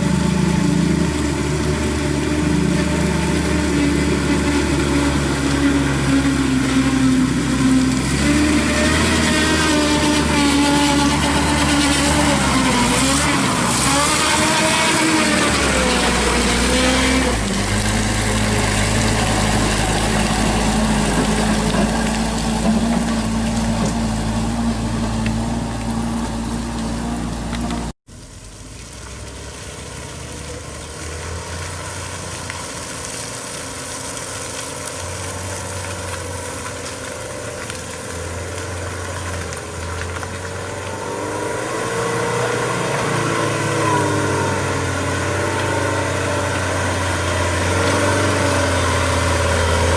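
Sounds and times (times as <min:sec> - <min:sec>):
truck engine running: 0:00.0 - 0:49.9.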